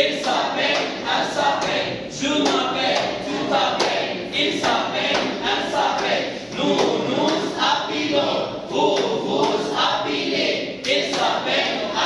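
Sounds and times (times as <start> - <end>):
students reciting in chorus: 0.0 - 12.0.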